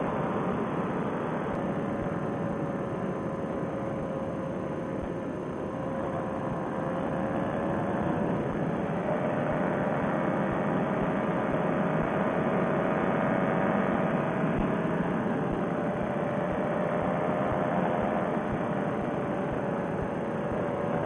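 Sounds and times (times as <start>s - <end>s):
paramotor engine and propeller: 0.0s - 21.0s.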